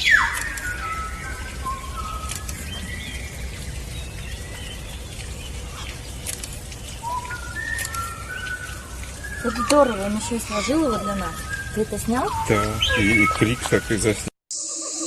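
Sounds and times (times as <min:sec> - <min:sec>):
outdoor background rumble: 0:00.0 - 0:14.3
small birds chirping: 0:00.0 - 0:14.3.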